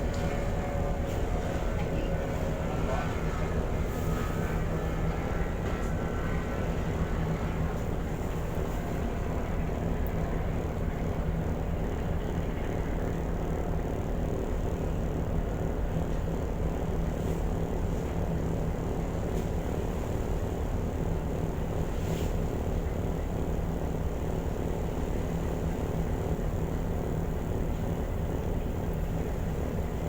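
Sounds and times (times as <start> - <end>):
ferry engines droning: 0.0 - 30.0.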